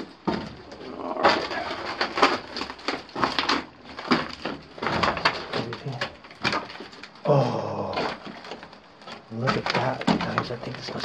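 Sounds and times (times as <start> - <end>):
footsteps crunching on loose rock: 0.0 - 11.0.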